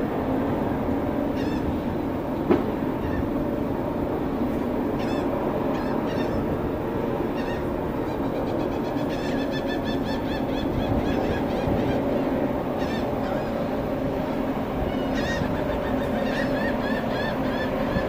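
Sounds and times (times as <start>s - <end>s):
low drone of ship machinery: 0.0s - 18.0s.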